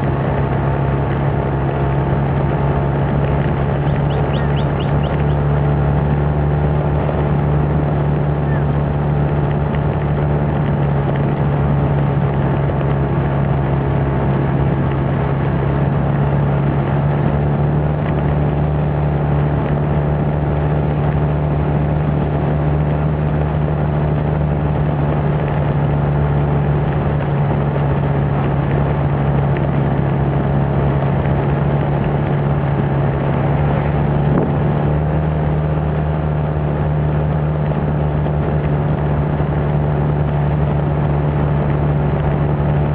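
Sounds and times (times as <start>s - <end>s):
motorbike engine humming: 0.0s - 42.9s
rushing wind noise: 0.0s - 42.9s.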